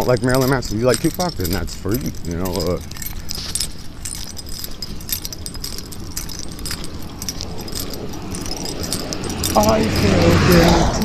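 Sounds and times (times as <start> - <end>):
low rumble of movement: 0.0 - 11.0
metallic jingling and clinking: 0.0 - 11.0.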